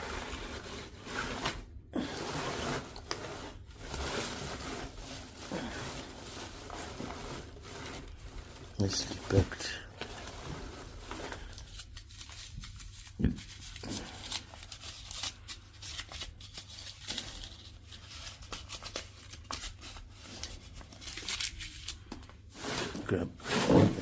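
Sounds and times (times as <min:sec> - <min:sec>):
packaging crinkling and tearing: 0:00.2 - 0:22.5.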